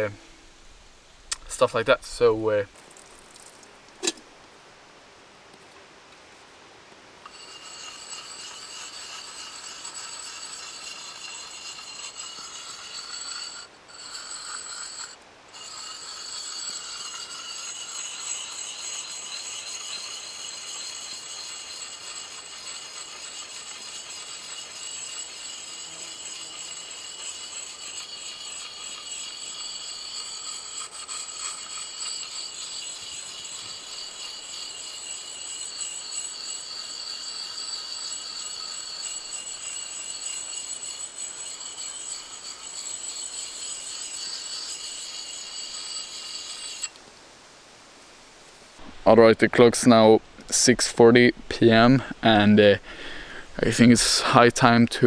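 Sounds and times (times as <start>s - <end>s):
blade scraping on sharpening stone: 3.0s - 4.2s, 7.2s - 47.0s, 48.8s - 55.0s.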